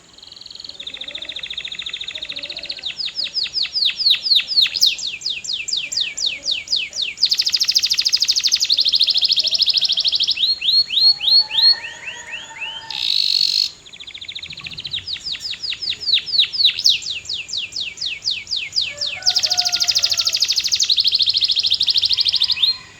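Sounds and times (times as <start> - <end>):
canary singing: 0.4 - 22.9.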